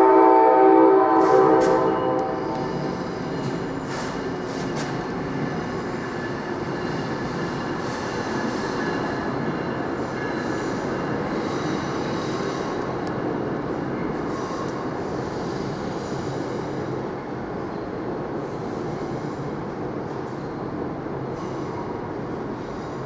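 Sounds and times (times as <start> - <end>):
train rumbling by: 0.0 - 23.0.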